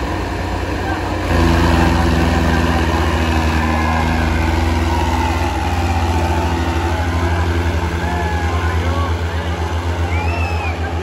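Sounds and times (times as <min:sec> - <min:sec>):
tractor engines under heavy load: 0:00.0 - 0:11.0.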